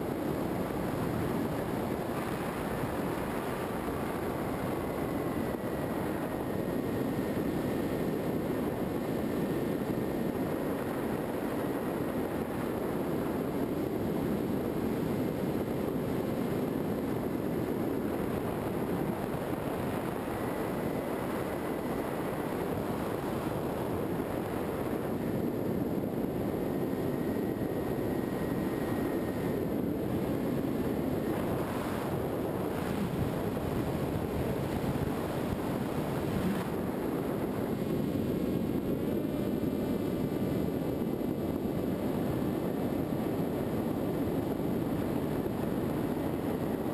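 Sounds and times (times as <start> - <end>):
faint high whine: 0.0 - 46.9
wind rushing over camera: 0.0 - 46.9.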